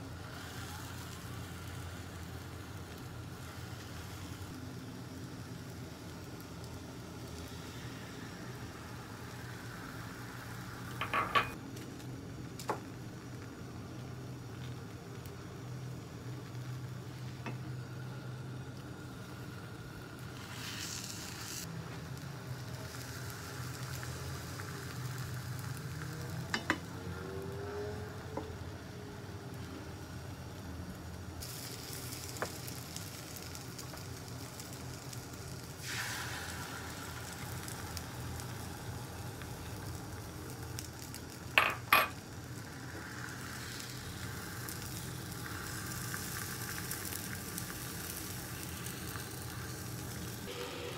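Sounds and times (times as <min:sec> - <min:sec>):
egg sizzling in a pan: 0:00.0 - 0:50.9.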